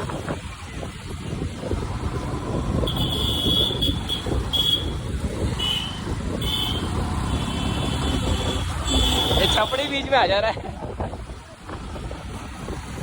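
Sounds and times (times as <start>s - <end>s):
motorbike engine and wind rumble: 0.0s - 13.0s.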